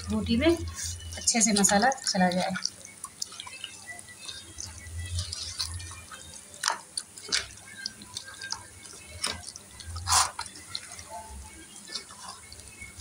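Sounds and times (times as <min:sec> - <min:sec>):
hands kneading wet meat: 0:00.0 - 0:13.0
wet squelches and clicks: 0:00.0 - 0:13.0.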